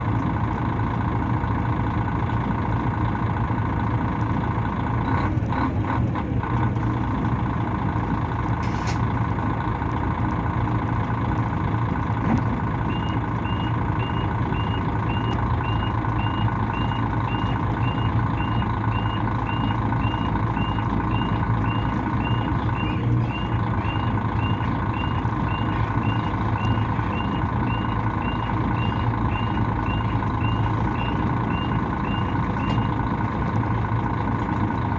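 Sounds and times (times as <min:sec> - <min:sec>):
bus diesel engine running: 0:00.0 - 0:34.9.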